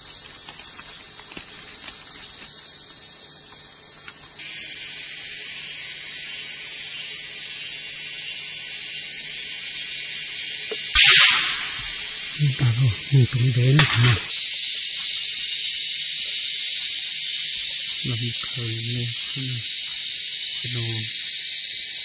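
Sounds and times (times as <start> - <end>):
jungle insect chorus drone: 0.0 - 22.0.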